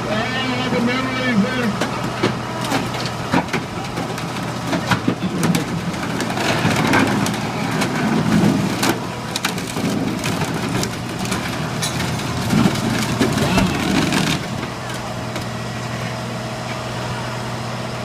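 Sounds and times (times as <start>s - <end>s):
machine engine hum: 0.0s - 18.0s.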